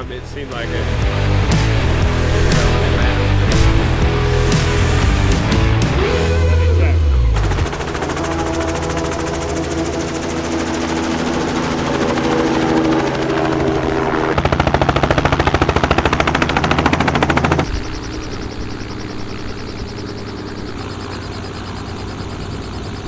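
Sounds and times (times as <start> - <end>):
helicopter rotor chopping: 0.0 - 5.6, 6.3 - 23.0
helicopter engine drone: 0.0 - 23.0.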